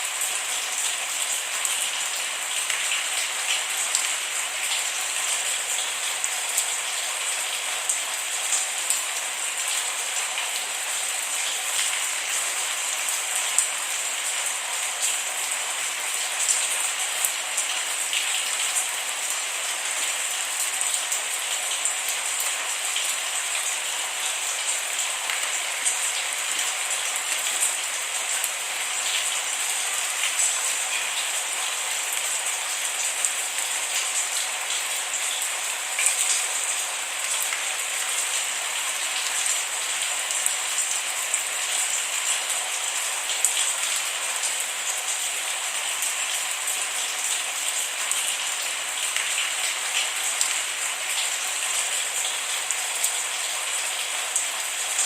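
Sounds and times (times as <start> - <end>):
raindrops pattering on a surface: 0.0 - 55.0
steady rain falling: 0.0 - 55.0.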